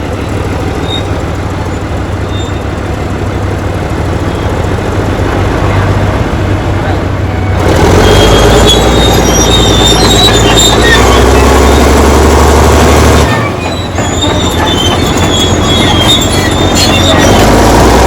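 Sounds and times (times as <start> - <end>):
steel tracks squealing and clanking: 0.0 - 3.1, 4.0 - 18.0
dozer engine drone: 0.0 - 18.0.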